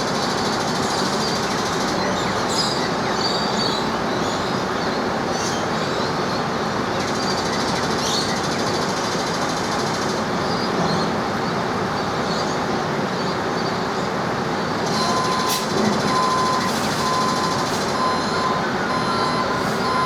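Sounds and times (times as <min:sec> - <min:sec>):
train rumbling and rattling: 0:00.0 - 0:20.0.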